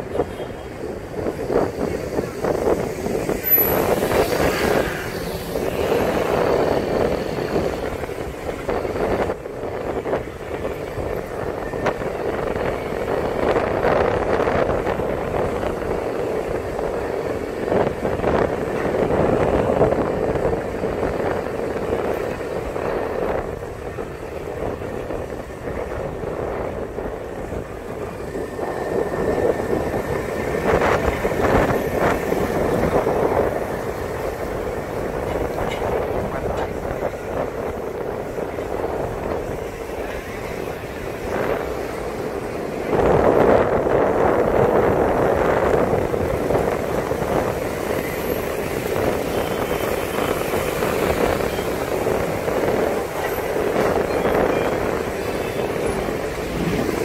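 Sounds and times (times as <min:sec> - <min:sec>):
city traffic engines and tyres: 0:00.0 - 0:57.0
wind on microphone: 0:00.0 - 0:57.0.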